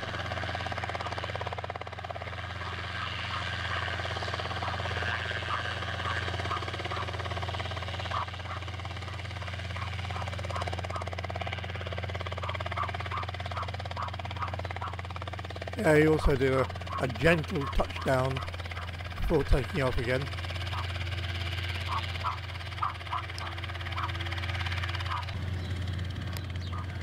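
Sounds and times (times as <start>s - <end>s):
helicopter hovering: 0.0s - 27.0s.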